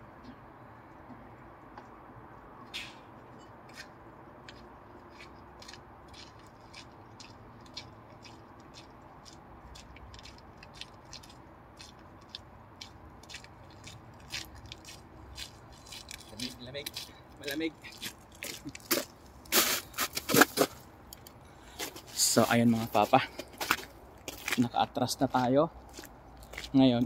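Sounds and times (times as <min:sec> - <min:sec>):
footsteps on wet gravel: 0:03.8 - 0:20.8, 0:21.7 - 0:27.0.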